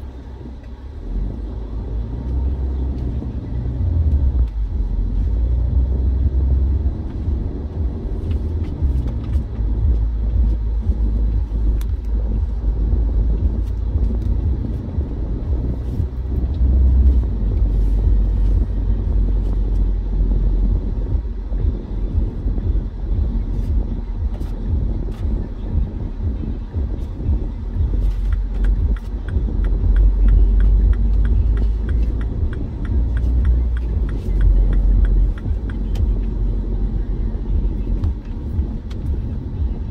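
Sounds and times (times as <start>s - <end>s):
car road noise rumble: 0.0s - 39.9s.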